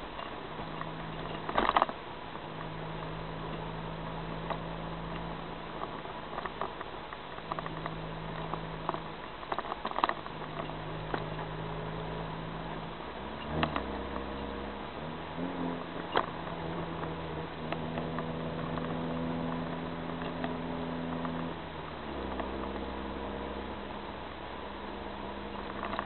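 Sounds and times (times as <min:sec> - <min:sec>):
car engine cruising: 0:00.0 - 0:26.0
road noise: 0:00.0 - 0:26.0
small clicks and rattles: 0:00.1 - 0:03.7, 0:04.4 - 0:14.9, 0:15.5 - 0:23.0, 0:25.0 - 0:26.0.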